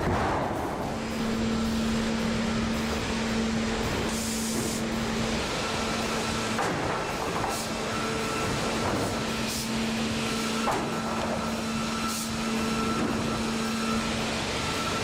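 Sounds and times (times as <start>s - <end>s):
heavy machinery humming: 0.0s - 15.0s.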